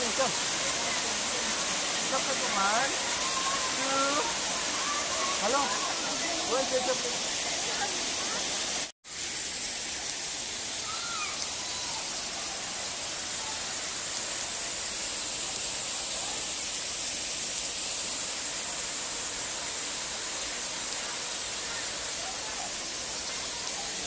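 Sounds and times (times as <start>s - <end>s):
waterfall rushing into pool: 0.0s - 24.0s.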